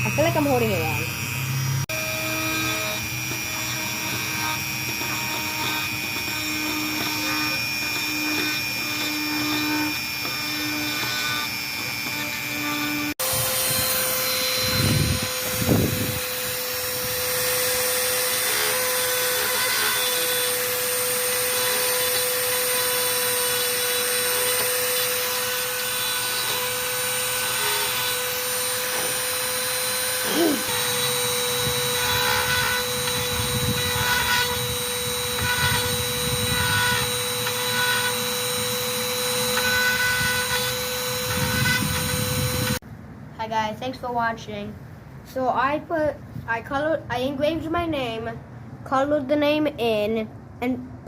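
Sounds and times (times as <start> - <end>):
rotary tool whining: 0.0 - 42.8.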